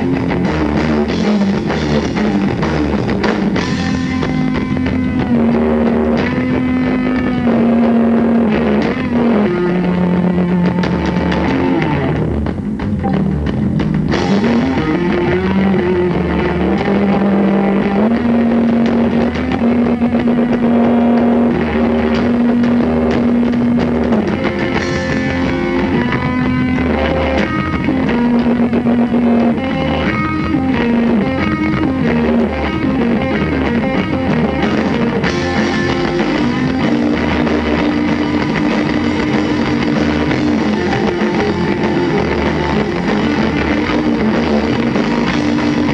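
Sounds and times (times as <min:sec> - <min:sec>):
live rock band: 0:00.0 - 0:45.9
sliding electric guitar notes: 0:00.0 - 0:45.9.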